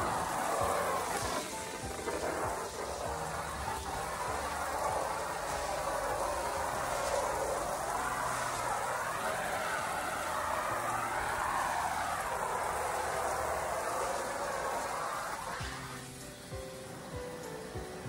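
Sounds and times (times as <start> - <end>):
hose water spraying on floor: 0.0 - 18.0.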